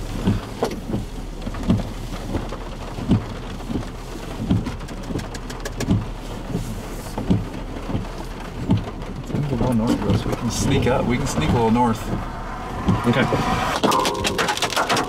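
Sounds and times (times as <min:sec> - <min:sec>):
heavy rain on car roof: 0:00.0 - 0:15.0
windshield wipers thudding: 0:00.0 - 0:15.0.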